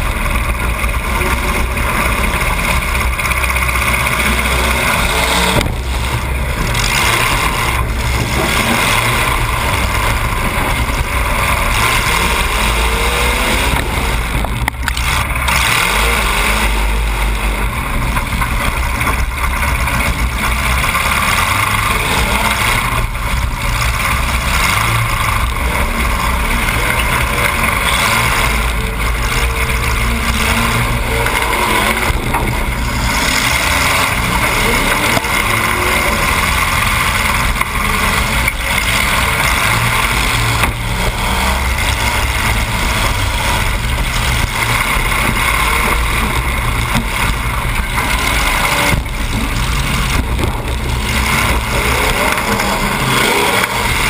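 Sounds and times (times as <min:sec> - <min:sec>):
loud car engine running: 0:00.0 - 0:54.0.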